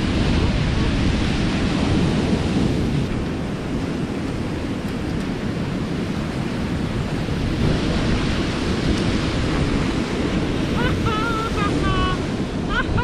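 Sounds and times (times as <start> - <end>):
surf breaking on rocks: 0.0 - 13.0
wind on microphone: 0.0 - 13.0.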